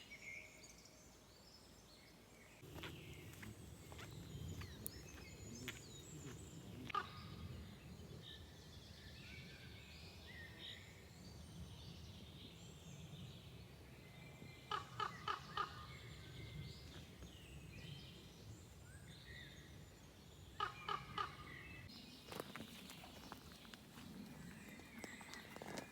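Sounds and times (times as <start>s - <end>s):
faint woodland birdsong: 0.0s - 25.9s.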